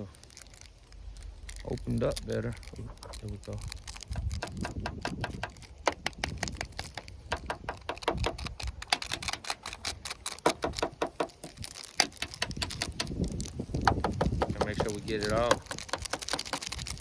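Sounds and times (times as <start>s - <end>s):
granules pattering into container: 0.0s - 17.0s.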